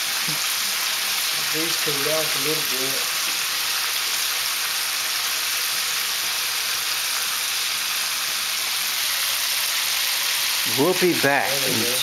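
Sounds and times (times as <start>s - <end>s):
fish deep-frying in oil: 0.0s - 12.0s.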